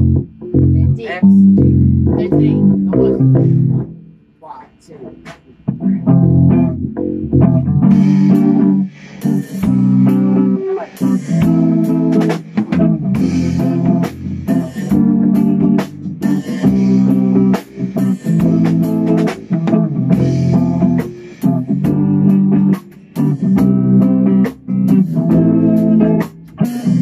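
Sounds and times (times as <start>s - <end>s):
rock band playing a riff: 0.0s - 4.3s, 4.9s - 27.0s.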